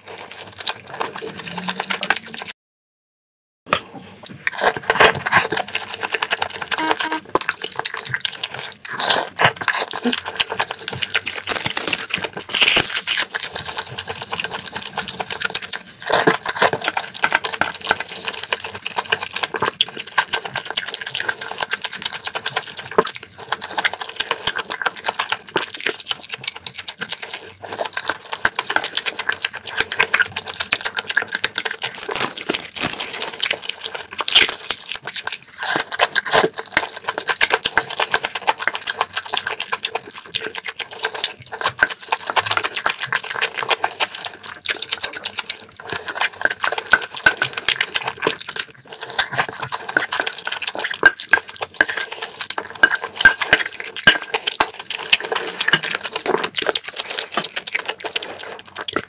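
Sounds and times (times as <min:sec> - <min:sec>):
wet chewing clicks and smacks: 0:00.0 - 0:02.5, 0:04.3 - 0:59.0.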